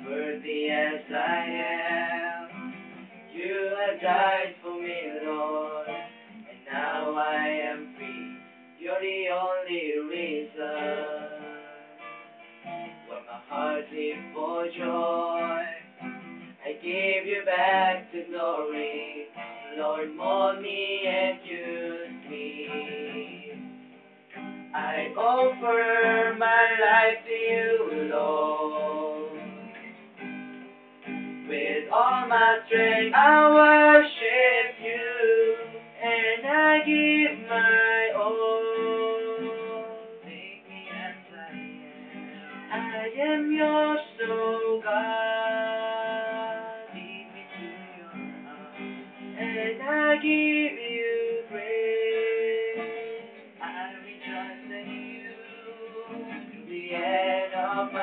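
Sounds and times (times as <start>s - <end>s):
people singing slow song: 0.0s - 11.8s, 13.1s - 23.7s, 24.8s - 30.0s, 31.4s - 58.0s
acoustic guitar strumming: 0.0s - 58.0s.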